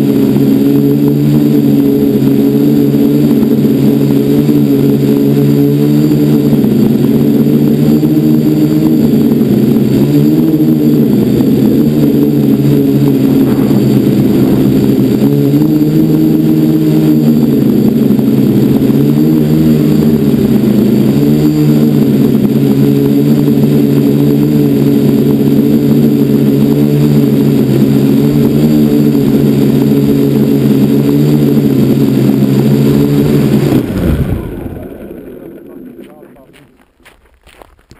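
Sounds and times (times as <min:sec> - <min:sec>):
drone propellers buzzing: 0:00.0 - 0:37.9.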